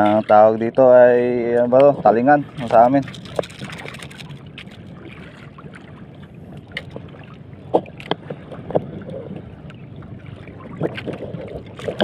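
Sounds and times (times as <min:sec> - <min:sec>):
water around a boat: 0:00.0 - 0:12.0
wind: 0:00.0 - 0:12.0.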